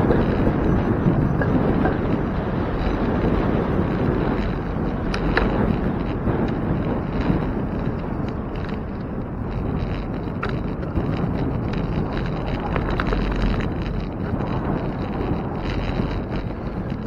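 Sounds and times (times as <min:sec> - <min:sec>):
wind rushing over microphone: 0:00.0 - 0:17.0
faint ticks: 0:00.1 - 0:17.0.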